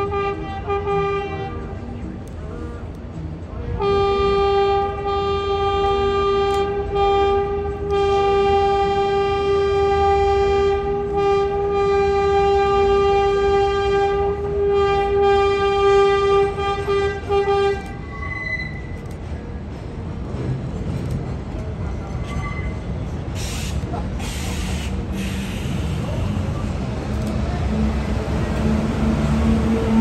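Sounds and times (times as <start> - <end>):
subway train horn blast: 0.0 - 2.9, 3.6 - 19.0, 22.3 - 30.0
train rumble: 0.0 - 30.0.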